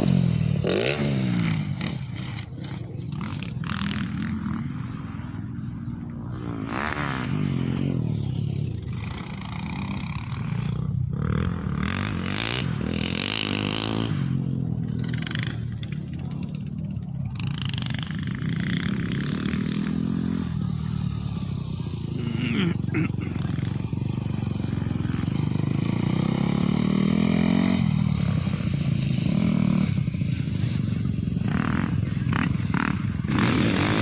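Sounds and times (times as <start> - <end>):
off-road vehicle engine revving: 0.0 - 5.0, 6.4 - 16.4, 17.4 - 30.8, 31.4 - 34.0.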